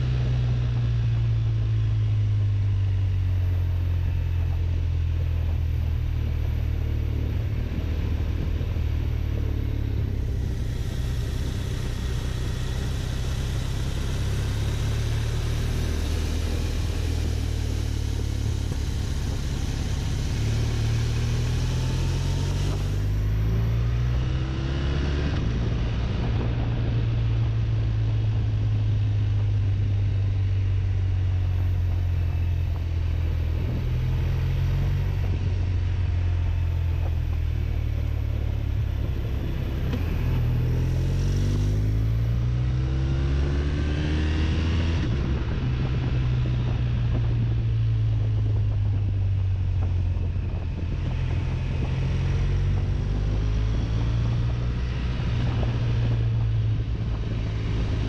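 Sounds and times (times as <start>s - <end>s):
motorcycle engine droning: 0.0s - 58.0s
wind rush: 4.9s - 58.0s.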